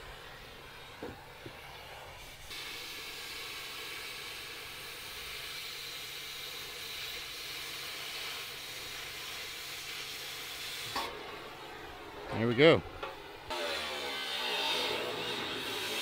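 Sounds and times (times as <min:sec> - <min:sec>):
cutting torch hissing: 0:00.0 - 0:12.0, 0:13.5 - 0:16.0.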